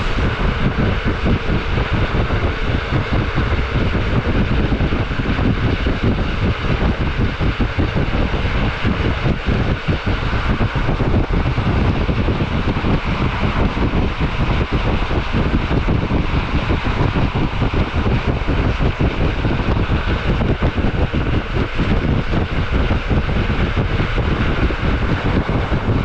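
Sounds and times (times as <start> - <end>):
train running at speed: 0.0 - 26.0
wind buffeting microphone: 0.0 - 26.0.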